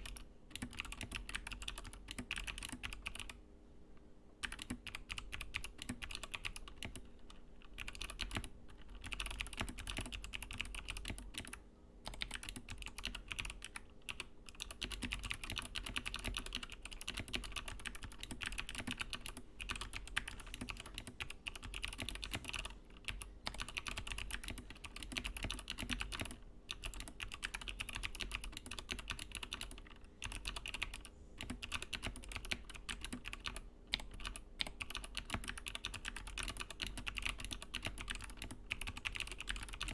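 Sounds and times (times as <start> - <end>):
fast typing on clicky keyboard: 0.0 - 3.4, 4.4 - 7.1, 7.7 - 39.9.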